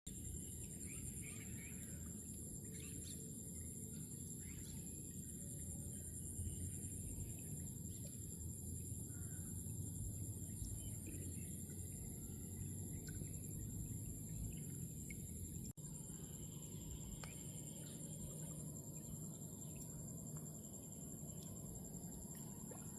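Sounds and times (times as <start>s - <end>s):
insect chorus: 0.1s - 22.9s.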